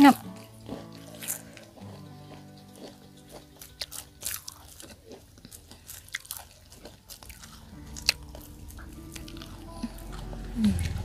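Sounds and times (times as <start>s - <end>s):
chewing crispy fried food: 0.0s - 11.0s.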